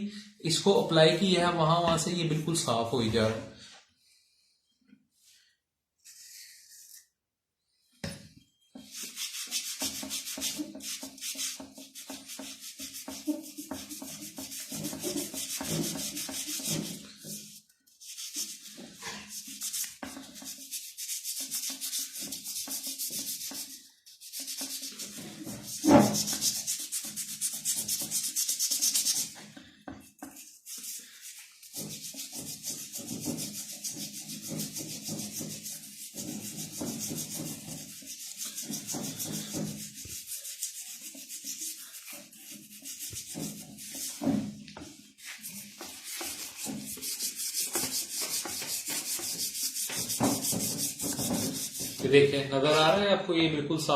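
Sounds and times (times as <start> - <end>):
hand scrubbing metal hub: 8.8 - 52.9.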